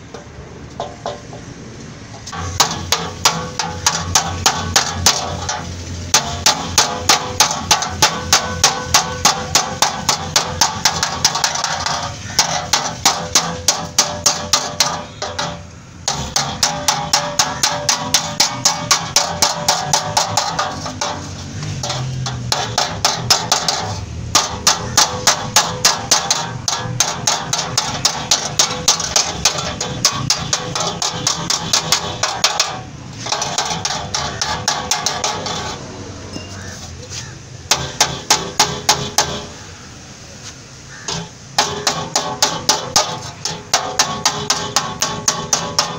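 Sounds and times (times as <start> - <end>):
hammer striking steel rod: 2.3 - 35.8, 37.7 - 39.5, 41.0 - 45.9.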